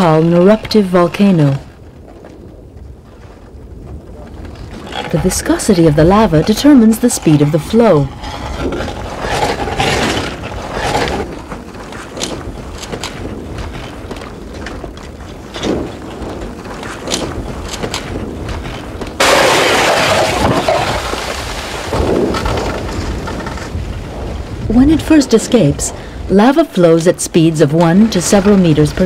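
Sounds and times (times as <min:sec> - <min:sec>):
lava crust cracking: 0:00.0 - 0:26.9, 0:27.9 - 0:29.0
low rumbling: 0:00.0 - 0:29.0
steady rushing noise: 0:01.7 - 0:29.0.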